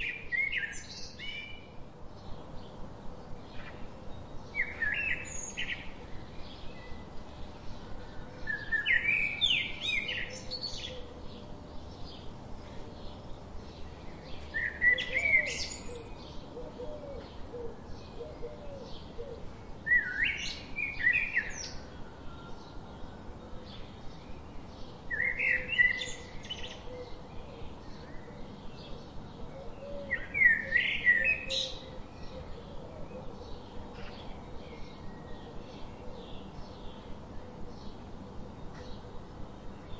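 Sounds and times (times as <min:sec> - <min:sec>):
bird song phrase: 0:00.0 - 0:39.9.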